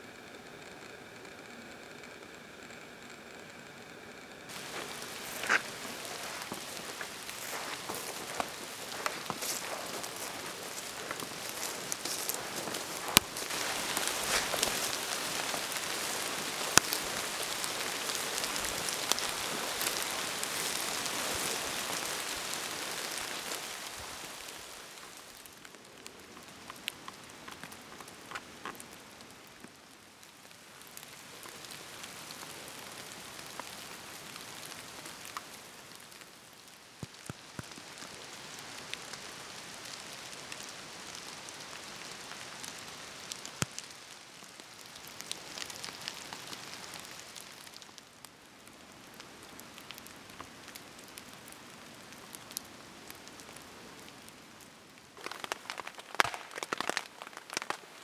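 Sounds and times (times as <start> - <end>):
fire hissing: 0.0 - 48.0
fire crackling and popping: 0.0 - 58.0.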